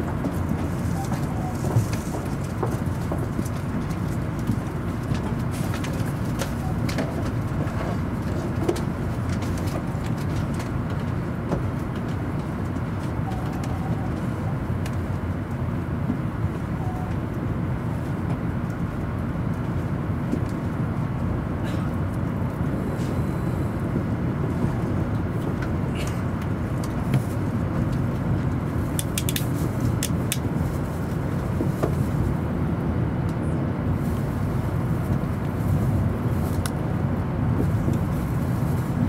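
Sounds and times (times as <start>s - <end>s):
train rumble from inside carriage: 0.0s - 39.0s.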